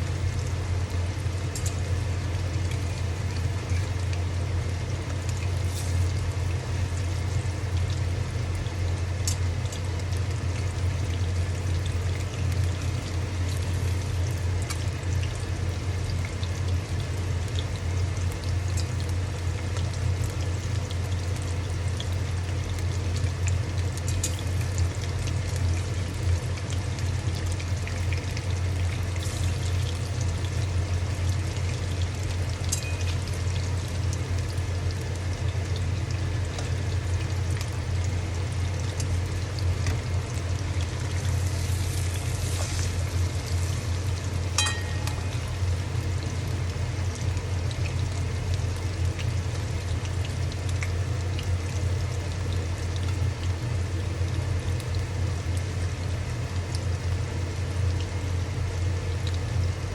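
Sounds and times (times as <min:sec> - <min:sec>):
fish deep-frying in hot oil: 0:00.0 - 0:59.9
low steady hum: 0:00.0 - 0:59.9.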